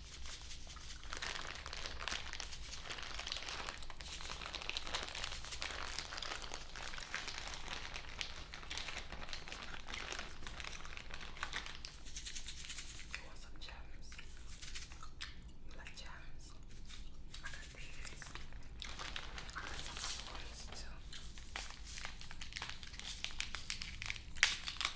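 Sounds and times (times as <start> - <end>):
crinkling while handled: 0.0 - 15.2, 15.8 - 24.9.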